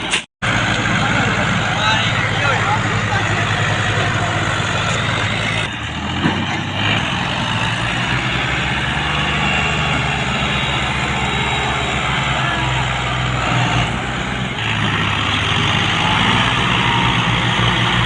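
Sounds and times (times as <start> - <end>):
tractor diesel engine throbbing: 0.0 - 18.0.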